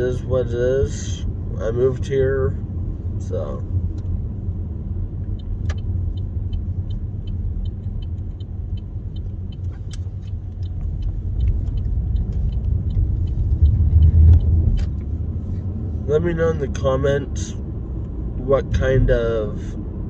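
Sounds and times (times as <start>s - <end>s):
car engine and tyre rumble: 0.0s - 20.0s
light regular ticking: 3.2s - 19.6s.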